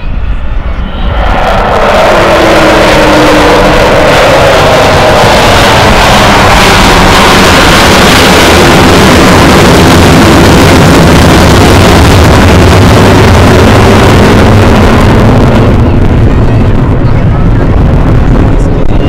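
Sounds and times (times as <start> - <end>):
jet engines roaring in flyby: 0.0 - 19.0.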